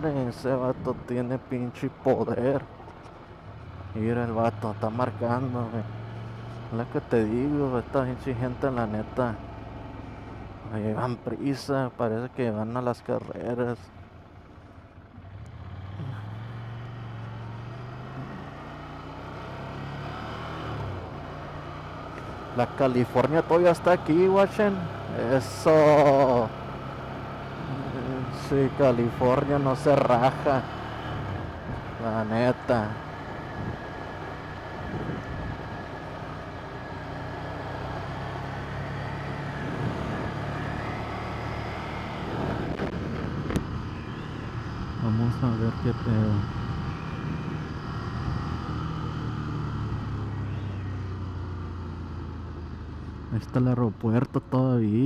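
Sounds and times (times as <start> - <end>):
motorcycle engine running: 0.0 - 11.2, 13.1 - 53.3.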